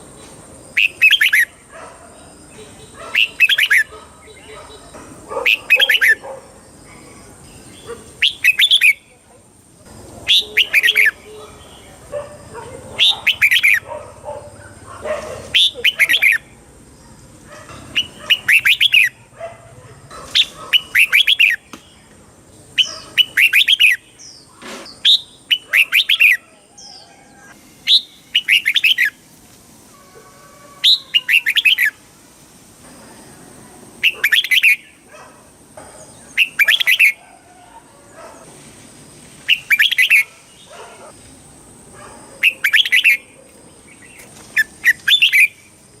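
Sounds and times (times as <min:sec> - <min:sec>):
bird singing warbled phrases: 0:00.7 - 0:19.4, 0:20.3 - 0:29.2, 0:30.8 - 0:32.0, 0:34.0 - 0:35.1, 0:36.1 - 0:38.4, 0:39.4 - 0:41.2, 0:42.0 - 0:45.7.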